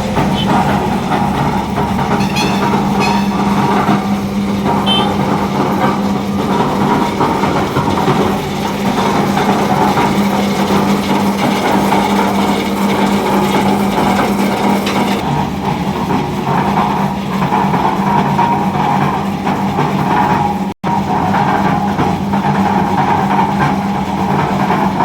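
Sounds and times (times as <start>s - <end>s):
concrete mixer clattering: 0.0s - 25.0s.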